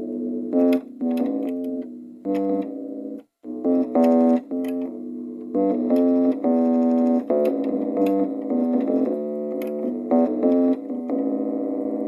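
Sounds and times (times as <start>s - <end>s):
keyboard chords: 0.0s - 12.0s.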